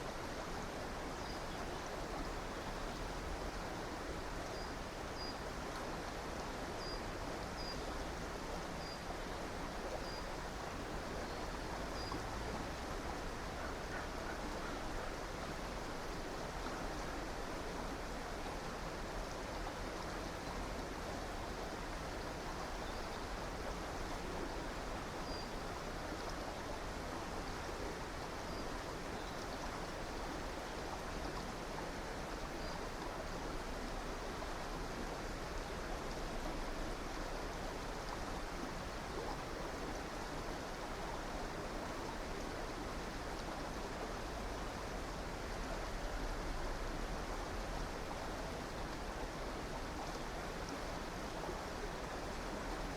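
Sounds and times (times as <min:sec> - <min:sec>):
stream rushing over stones: 0:00.0 - 0:52.9.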